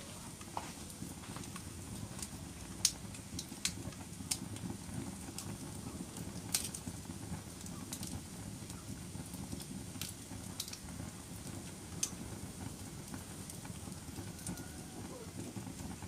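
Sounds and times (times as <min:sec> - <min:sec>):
fire popping and crackling: 0:00.0 - 0:16.0
fire rumbling: 0:00.0 - 0:16.0.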